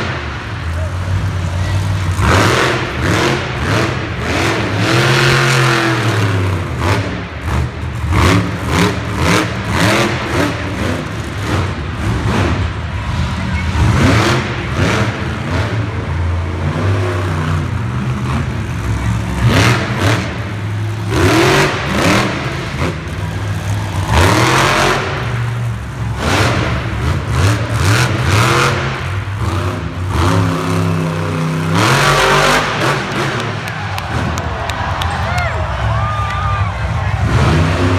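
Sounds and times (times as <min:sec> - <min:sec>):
truck engine revving: 0:00.0 - 0:35.9, 0:36.6 - 0:37.9.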